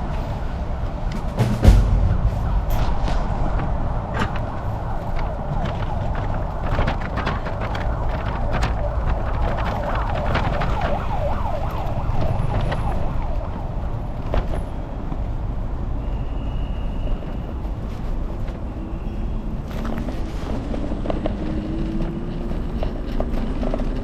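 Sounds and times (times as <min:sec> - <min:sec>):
busy city street noise: 0:00.0 - 0:24.0
wind rumble on microphone: 0:00.0 - 0:24.0.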